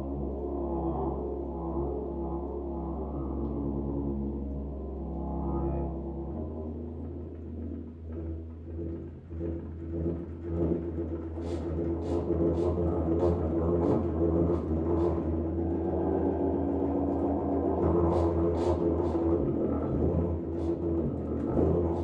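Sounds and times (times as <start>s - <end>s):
tuba low drone: 0.0s - 22.0s.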